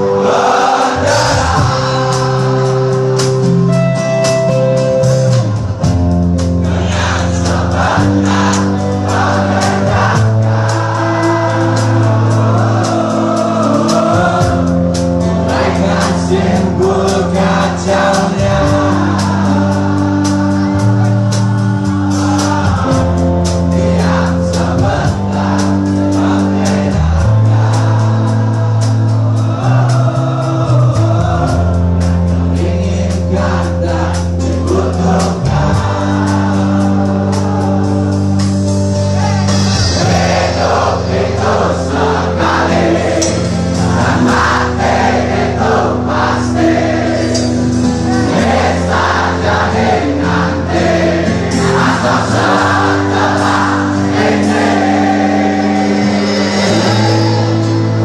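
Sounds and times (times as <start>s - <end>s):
person singing: 0.0s - 5.4s, 6.6s - 58.0s
crowd singing along: 0.0s - 58.0s
rock band playing live: 0.0s - 58.0s.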